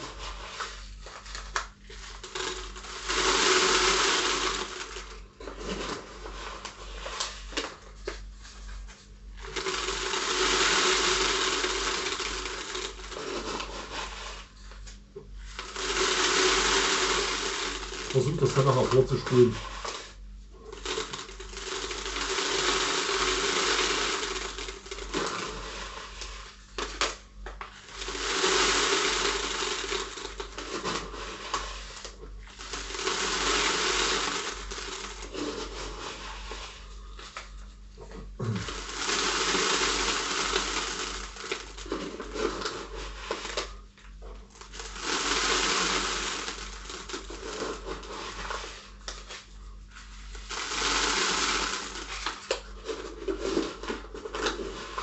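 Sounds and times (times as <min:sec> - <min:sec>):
granules poured into plastic bottle: 0:00.0 - 0:37.8, 0:38.4 - 0:55.0
scooping granules from plastic bucket: 0:00.0 - 0:55.0.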